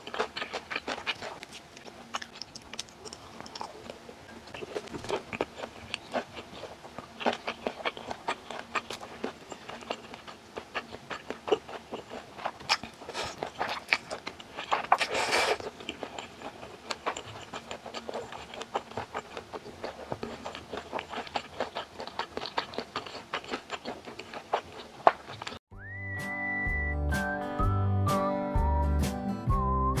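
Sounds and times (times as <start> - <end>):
person chewing food: 0.0 - 25.6.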